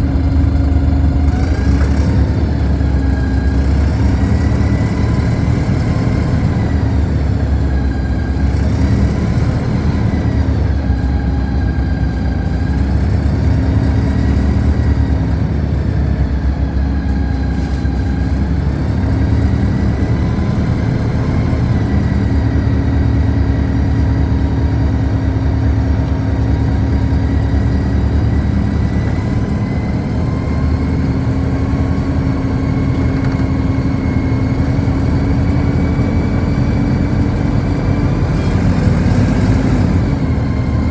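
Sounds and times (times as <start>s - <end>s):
bus engine rumble and whine: 0.0s - 40.9s.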